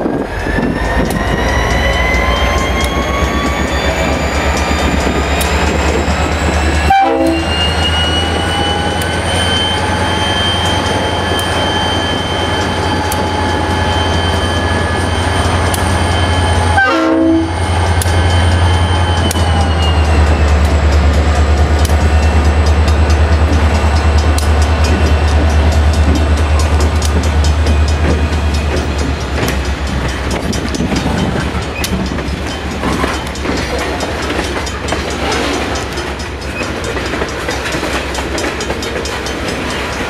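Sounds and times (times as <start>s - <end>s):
diesel locomotive engine drone: 0.0s - 40.0s.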